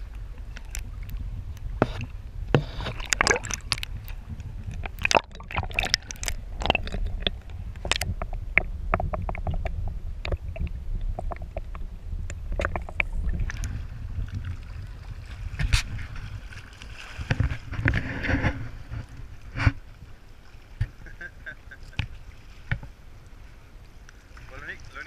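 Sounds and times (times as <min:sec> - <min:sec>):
muffled underwater rumble: 0:00.0 - 0:25.0
water lapping and splashing: 0:00.0 - 0:25.0.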